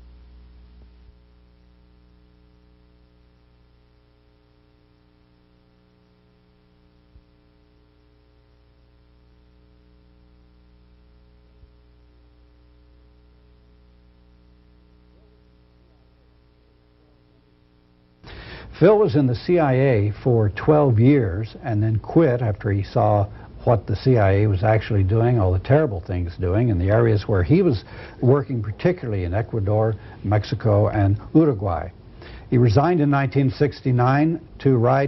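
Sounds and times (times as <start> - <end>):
faint mains hum: 0.0 - 35.0.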